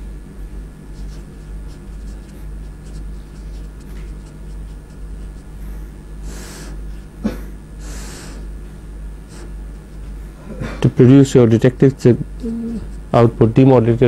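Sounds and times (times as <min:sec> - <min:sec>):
low mains hum: 0:00.0 - 0:14.0.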